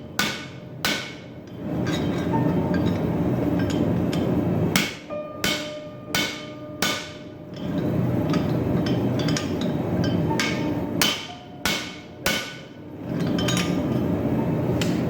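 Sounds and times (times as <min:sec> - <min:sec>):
hammer striking metal tool: 0:00.2 - 0:03.0, 0:03.6 - 0:14.0.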